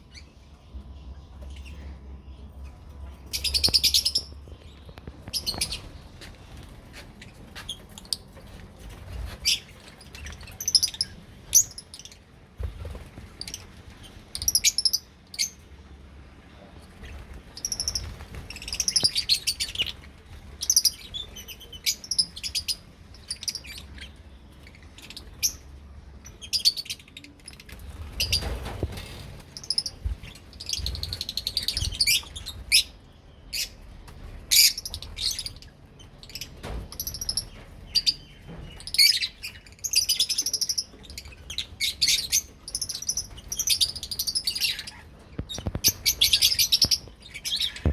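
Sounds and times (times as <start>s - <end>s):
lovebirds chirping: 0.0s - 15.7s, 16.6s - 47.9s.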